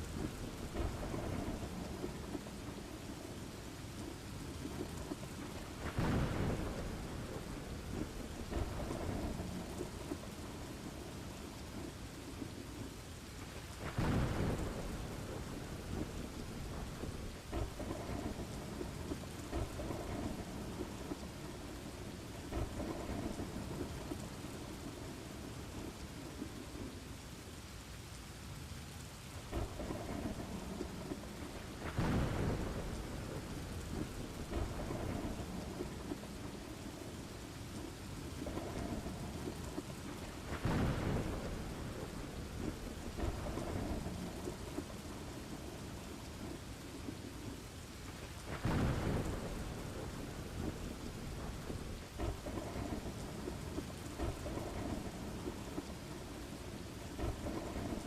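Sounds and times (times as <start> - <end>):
low rumbling thunder: 0.0 - 26.9, 29.5 - 58.0
steady rain: 0.0 - 58.0.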